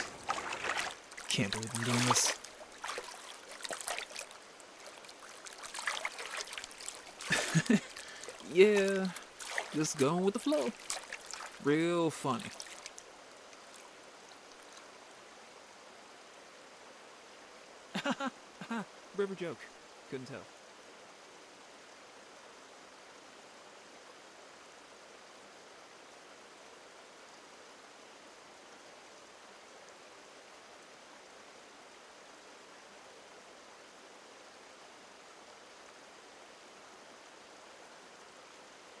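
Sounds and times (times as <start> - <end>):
river flowing: 0.0 - 39.0.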